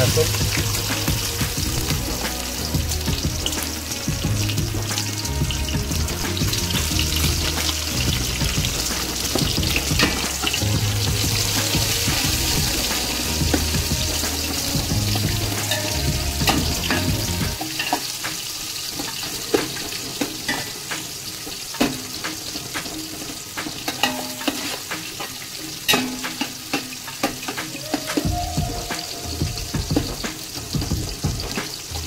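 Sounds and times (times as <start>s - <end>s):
onion and garlic sizzling: 0.0s - 32.0s.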